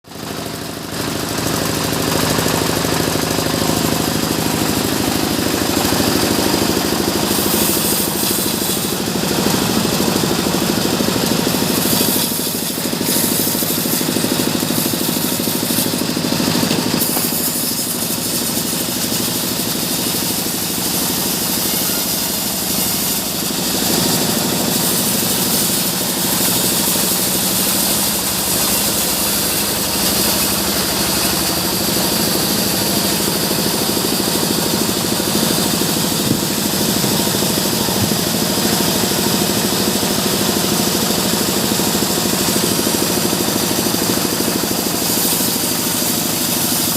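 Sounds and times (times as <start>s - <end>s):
sawmill machinery droning: 0.1s - 46.9s.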